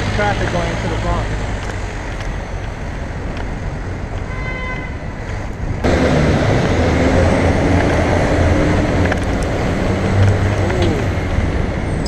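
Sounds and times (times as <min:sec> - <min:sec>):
large vehicle engine hum: 0:00.0 - 0:04.3, 0:04.9 - 0:12.0
city road traffic: 0:00.0 - 0:12.0.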